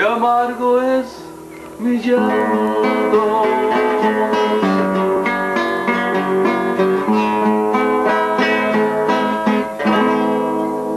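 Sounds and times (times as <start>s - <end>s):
acoustic guitar chords: 0.0s - 10.9s.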